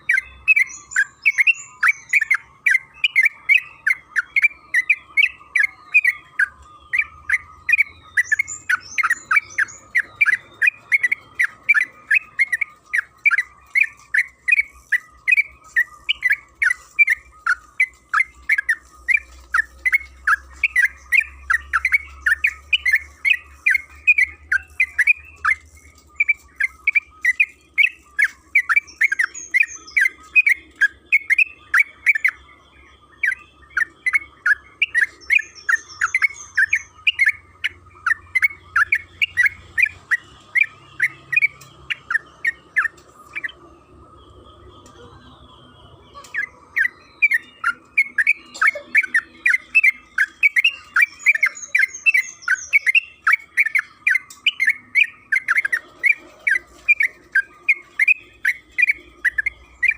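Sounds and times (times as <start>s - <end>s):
bird chirping call: 0.0s - 59.9s.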